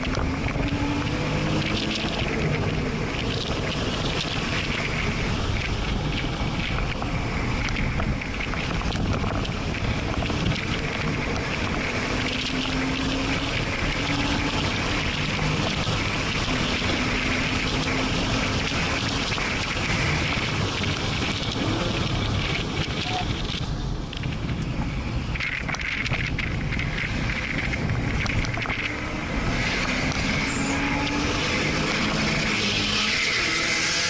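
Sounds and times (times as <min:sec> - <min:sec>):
sports car engine under load: 0:00.0 - 0:34.0
wind and road noise: 0:00.0 - 0:34.0.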